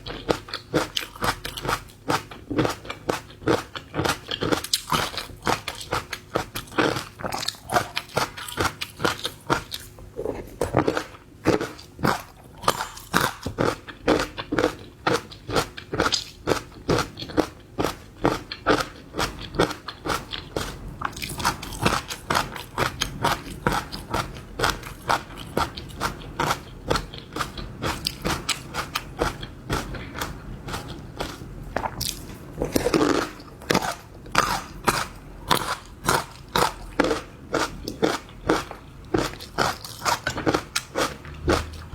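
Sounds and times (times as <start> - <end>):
crunching bites and wet chewing: 0.0 - 41.9.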